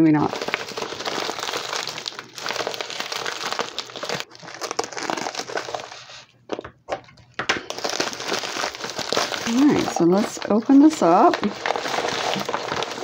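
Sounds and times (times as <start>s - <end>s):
plastic mailer crinkling: 0.0s - 13.0s
sharp plastic crackles: 0.0s - 13.0s.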